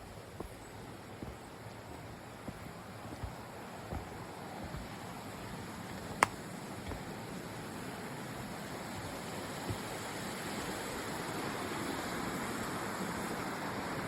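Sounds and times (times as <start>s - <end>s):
mountain creek rushing: 0.0s - 14.0s.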